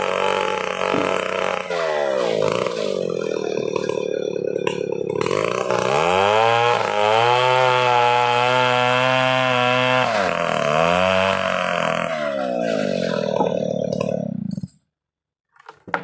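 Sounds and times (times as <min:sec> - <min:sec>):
chainsaw revving: 0:00.0 - 0:14.7.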